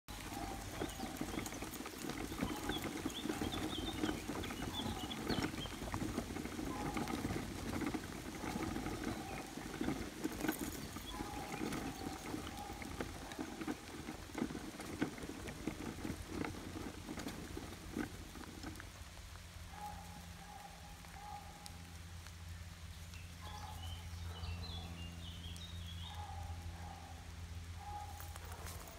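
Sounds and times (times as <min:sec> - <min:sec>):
dog paws pattering on leaves: 0:00.1 - 0:28.9
footsteps on leafy dirt path: 0:00.1 - 0:28.9.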